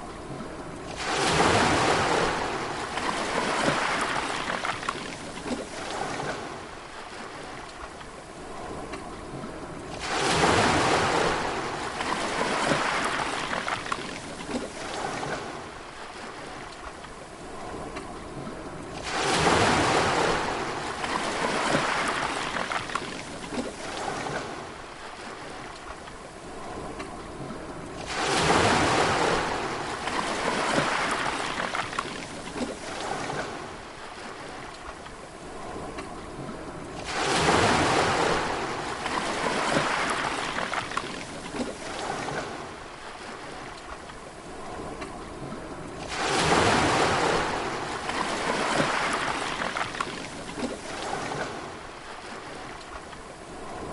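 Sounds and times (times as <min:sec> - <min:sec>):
sea waves crashing on shore: 0:00.0 - 0:53.9.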